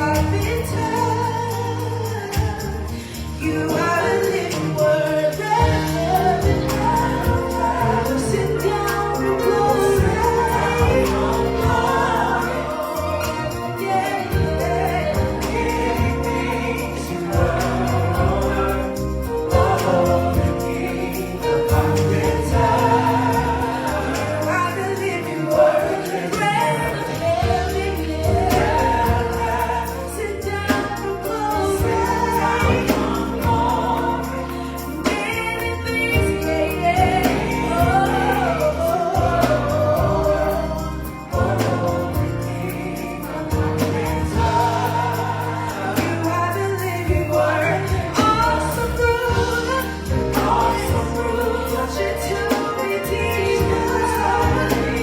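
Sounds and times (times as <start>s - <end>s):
band accompaniment: 0.0s - 55.0s
gospel choir singing: 0.0s - 55.0s.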